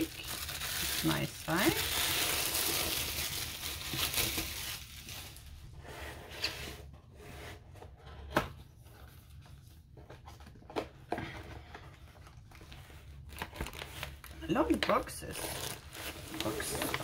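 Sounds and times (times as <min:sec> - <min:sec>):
packaging rustling: 0:00.0 - 0:05.6, 0:08.8 - 0:17.0.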